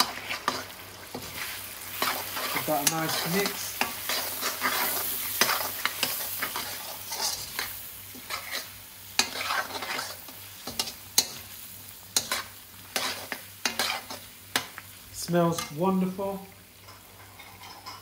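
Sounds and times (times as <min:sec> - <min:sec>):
metal spoon scraping a pan: 0:00.0 - 0:11.5, 0:12.2 - 0:14.7, 0:16.8 - 0:18.0
vegetables sizzling in oil: 0:00.0 - 0:18.0.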